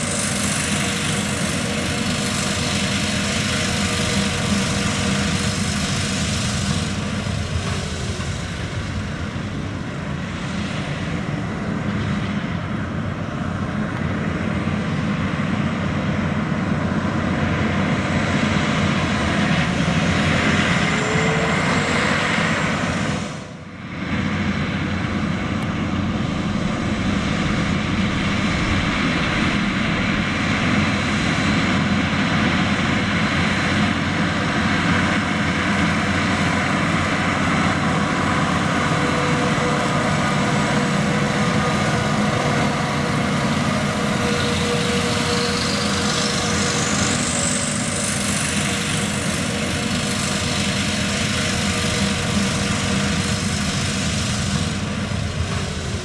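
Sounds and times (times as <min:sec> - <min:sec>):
tractor engine droning: 0:00.0 - 0:56.0.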